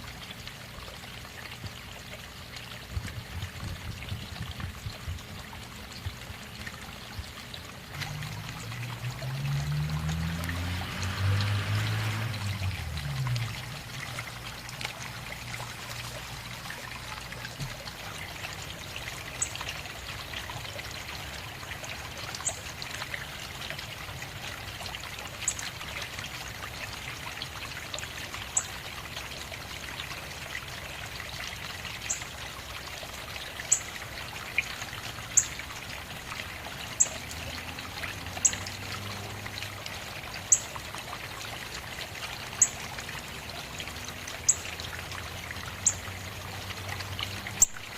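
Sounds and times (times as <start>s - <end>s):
water trickling: 0.0s - 47.9s.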